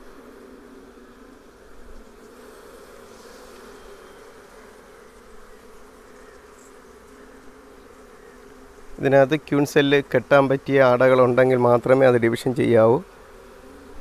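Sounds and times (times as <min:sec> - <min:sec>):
honey bees humming: 0:00.0 - 0:14.0.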